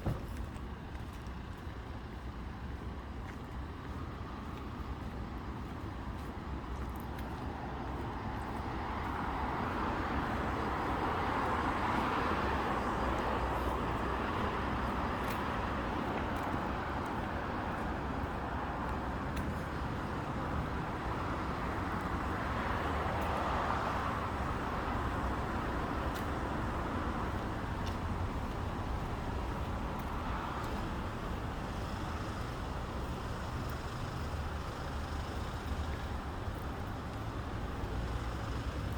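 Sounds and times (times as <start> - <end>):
passing cars rumbling: 7.5 - 38.9.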